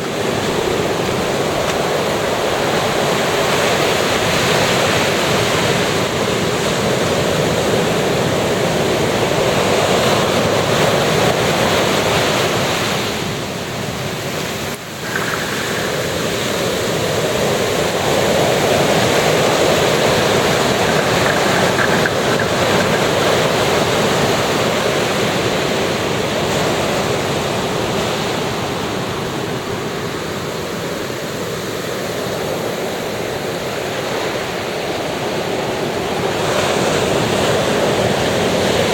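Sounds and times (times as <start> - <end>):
ocean surf washing onto beach: 0.0 - 38.9.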